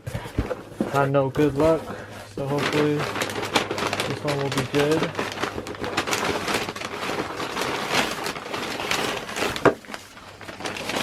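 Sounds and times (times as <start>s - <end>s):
packaging crinkling and rustling: 0.1s - 11.0s.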